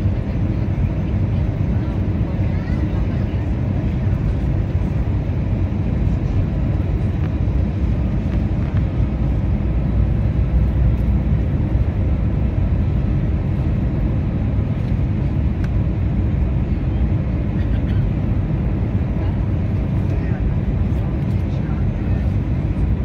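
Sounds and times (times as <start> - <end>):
low rumble of aircraft engines: 0.0 - 23.0.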